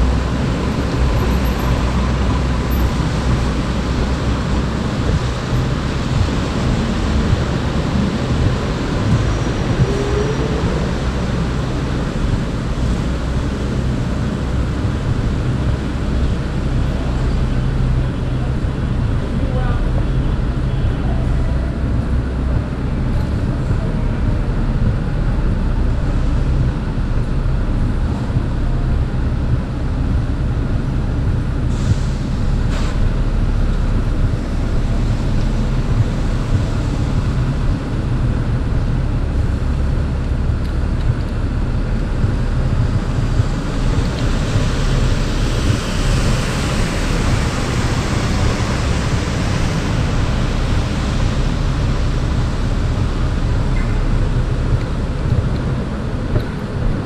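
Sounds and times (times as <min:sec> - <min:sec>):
low traffic rumble: 0:00.0 - 0:57.0
tyres hissing on wet road: 0:00.0 - 0:57.0.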